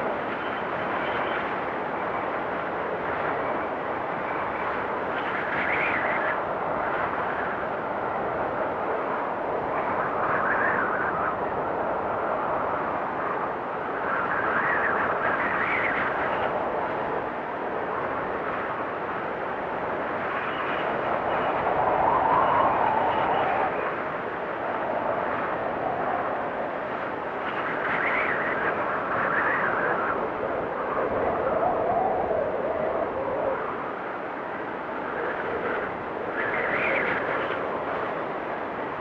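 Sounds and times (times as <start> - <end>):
strong wind blowing: 0.0 - 39.0.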